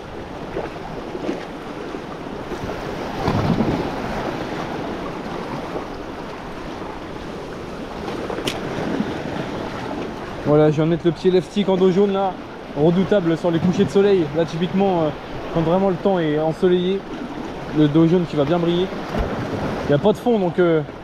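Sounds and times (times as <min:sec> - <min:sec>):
sea waves washing over rocks: 0:00.0 - 0:21.0.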